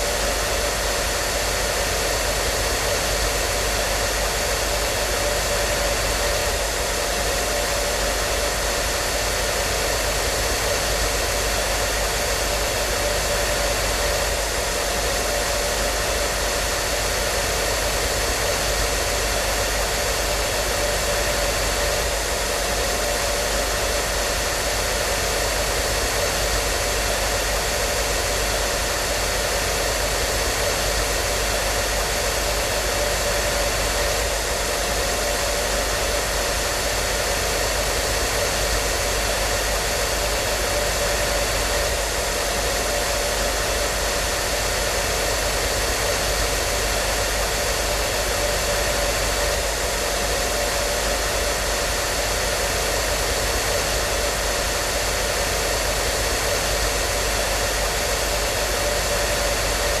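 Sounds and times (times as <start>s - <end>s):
hair dryer running: 0.0s - 60.0s.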